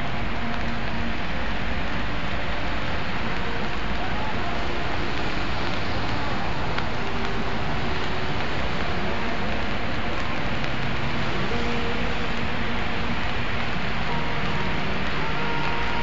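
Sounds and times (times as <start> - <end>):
city street hiss on wet streets: 0.0 - 16.0
faint voices: 0.0 - 16.0.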